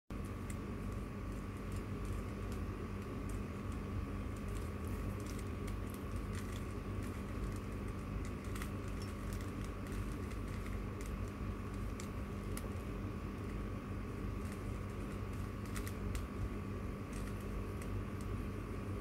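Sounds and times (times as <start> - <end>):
steady hum: 0.1 - 19.0.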